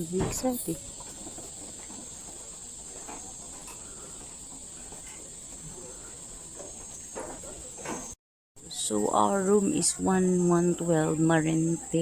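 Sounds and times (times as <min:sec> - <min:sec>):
insects chorus buzzing: 0:00.0 - 0:12.0.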